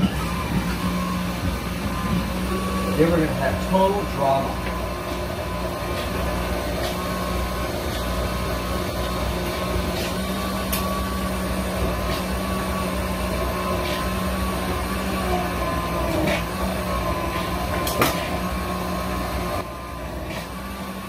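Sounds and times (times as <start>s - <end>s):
blender running: 0.0s - 21.0s.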